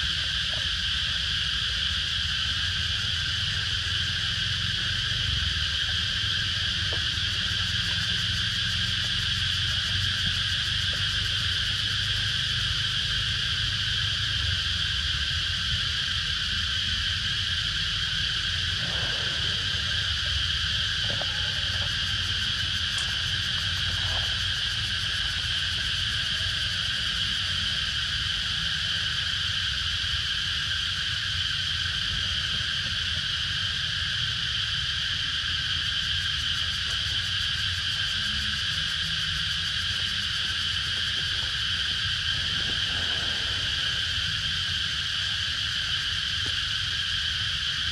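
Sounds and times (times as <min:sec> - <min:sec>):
forest insects droning: 0:00.0 - 0:47.9.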